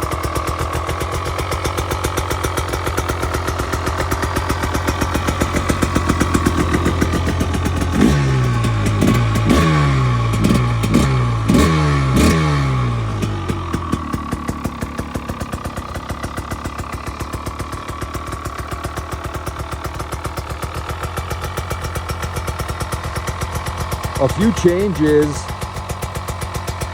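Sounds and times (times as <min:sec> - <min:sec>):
dirt bike engine revving and idling: 0:00.0 - 0:26.9.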